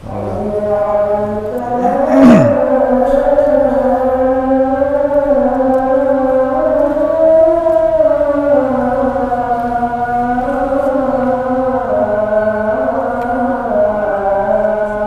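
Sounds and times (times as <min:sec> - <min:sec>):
person chanting call to prayer: 0:00.0 - 0:15.0.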